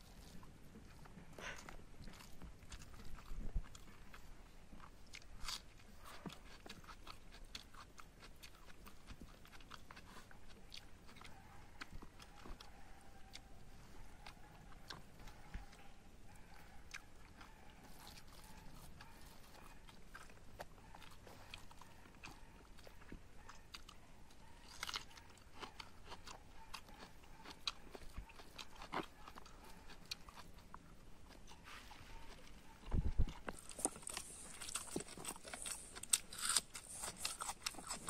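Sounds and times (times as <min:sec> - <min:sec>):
person chewing food: 0:00.0 - 0:38.0.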